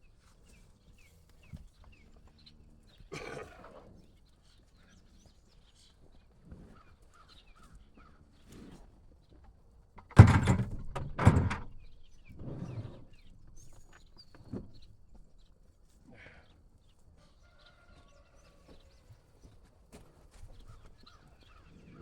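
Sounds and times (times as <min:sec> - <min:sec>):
faint farmyard sounds: 0:00.0 - 0:22.0.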